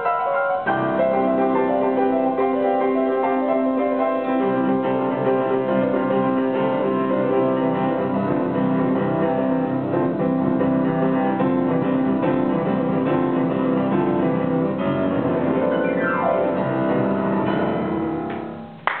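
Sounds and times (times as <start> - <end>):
solo grand piano: 0.0 - 19.0.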